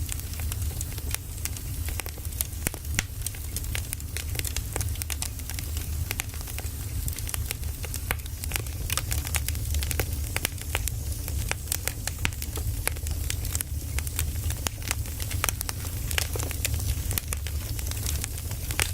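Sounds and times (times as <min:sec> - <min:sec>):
firewood crackling and popping: 0:00.0 - 0:18.9.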